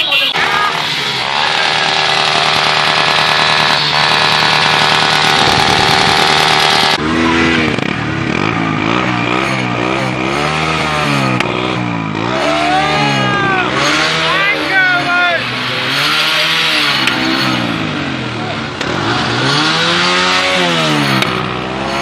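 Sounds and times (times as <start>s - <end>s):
motorcycle engine running steadily: 0.0s - 22.0s
motorcycle exhaust revving: 0.0s - 22.0s.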